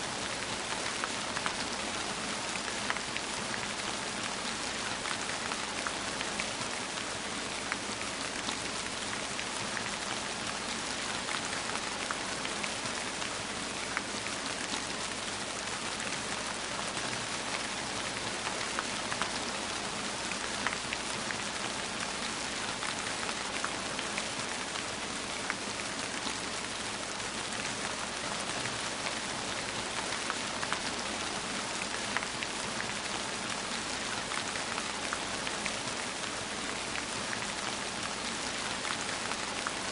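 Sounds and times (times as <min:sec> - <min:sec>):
steady rain hiss: 0:00.0 - 0:39.9
raindrops ticking on a surface: 0:00.1 - 0:39.9.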